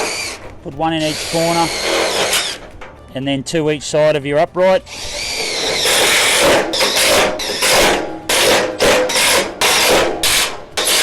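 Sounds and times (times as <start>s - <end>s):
power drill driving screws: 0.0s - 2.7s, 4.9s - 11.0s.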